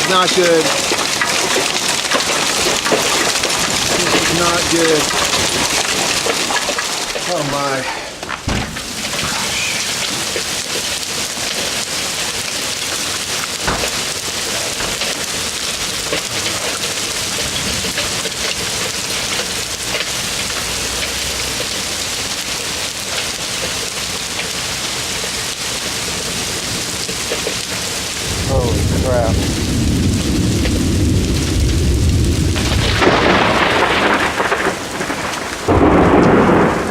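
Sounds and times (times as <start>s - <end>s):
heavy hail pelting: 0.0s - 36.9s
sharp hail impact: 0.0s - 36.9s.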